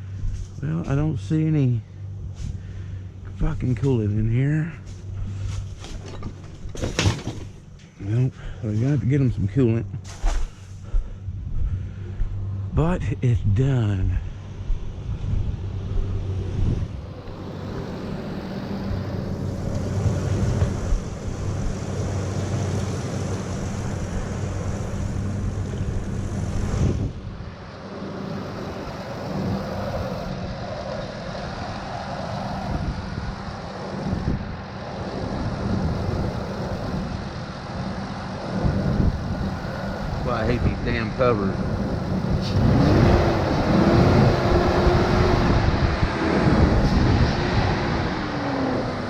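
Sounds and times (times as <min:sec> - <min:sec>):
vehicle engine humming: 0:00.0 - 0:49.0.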